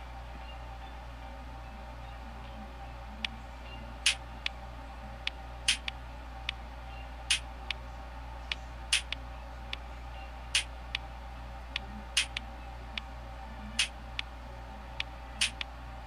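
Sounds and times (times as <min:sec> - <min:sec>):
music through earbuds: 0:00.0 - 0:16.0
steady low hum: 0:00.0 - 0:16.0.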